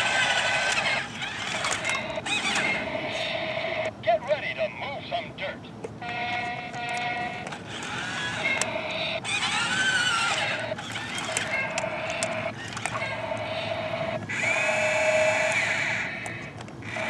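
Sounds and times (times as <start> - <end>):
toy excavator motors whirring: 0.0 - 3.9, 5.8 - 17.0.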